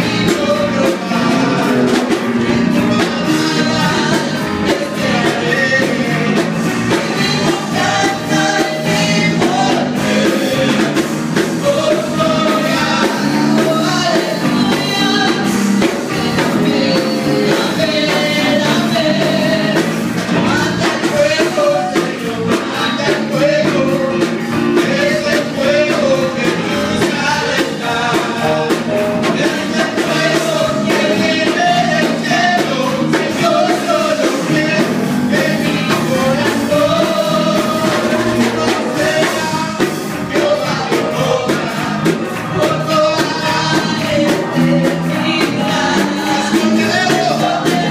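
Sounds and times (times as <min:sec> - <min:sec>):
electric bass guitar: 0:00.0 - 0:47.9
live band playing: 0:00.0 - 0:47.9
voices singing into microphones: 0:00.0 - 0:47.9.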